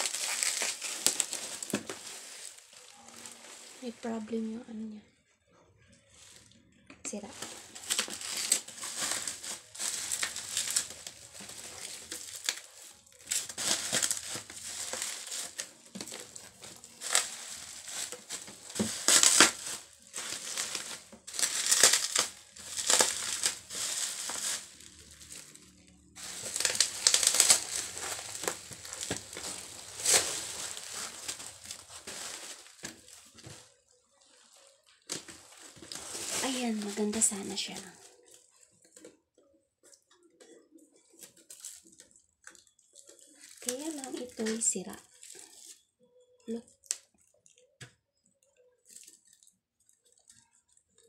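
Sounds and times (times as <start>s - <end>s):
plastic packaging crinkling: 0.0s - 4.4s, 6.1s - 39.1s, 39.9s - 45.9s, 46.5s - 51.0s.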